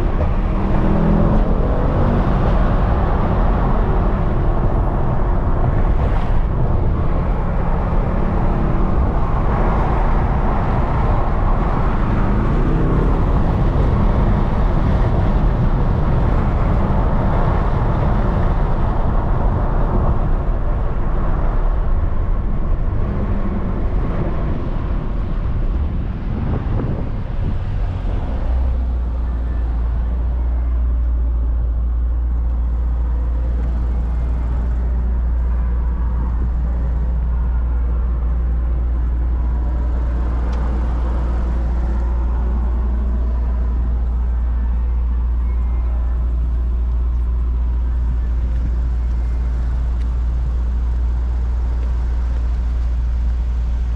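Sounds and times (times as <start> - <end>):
car engine: 0.0 - 53.9
road and tyre noise: 0.0 - 53.9.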